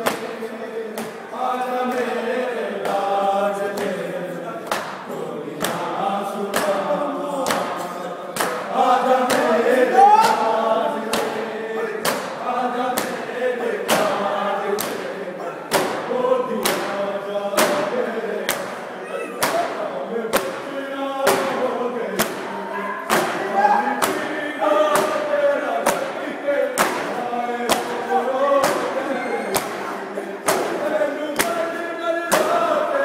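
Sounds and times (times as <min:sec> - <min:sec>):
men chanting a lament: 0:00.0 - 0:33.0.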